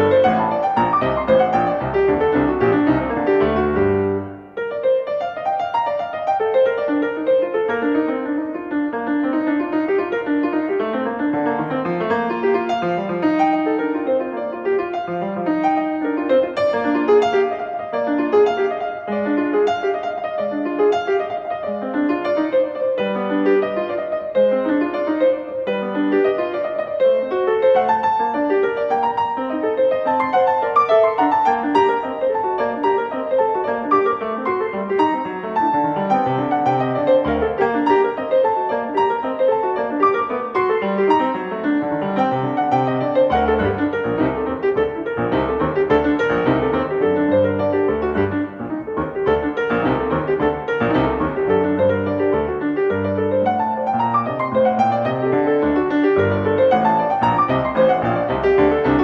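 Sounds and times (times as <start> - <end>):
classical grand piano: 0.0 - 59.0.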